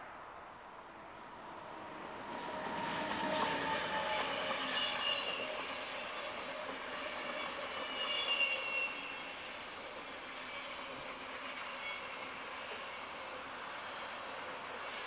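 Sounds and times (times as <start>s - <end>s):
train wheels rumbling on track: 1.2s - 15.0s.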